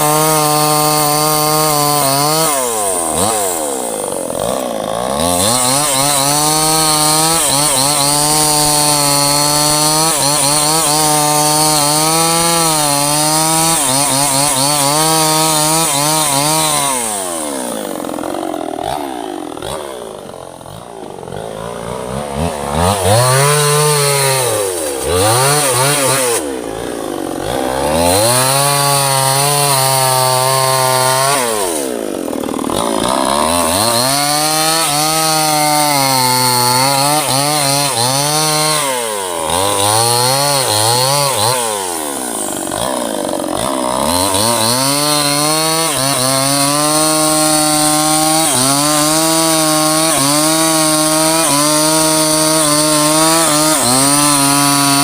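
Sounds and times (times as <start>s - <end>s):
chainsaw revving while cutting: 0.0s - 55.0s.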